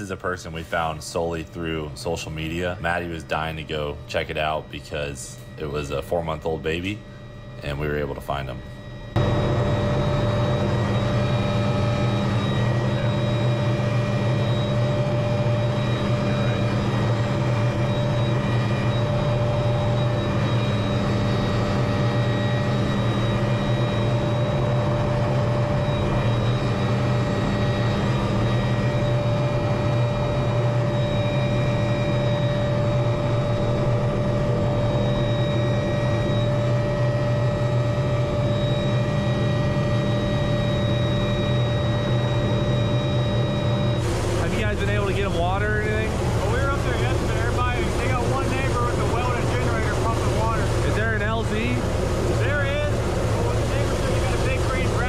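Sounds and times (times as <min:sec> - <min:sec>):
helicopter drone: 0:00.0 - 0:55.0
high whines: 0:00.0 - 0:55.0.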